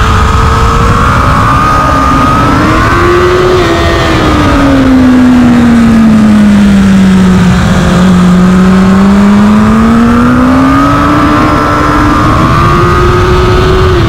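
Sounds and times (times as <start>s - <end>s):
motorcycle engine revving: 0.0s - 14.0s
wind noise: 0.0s - 14.0s.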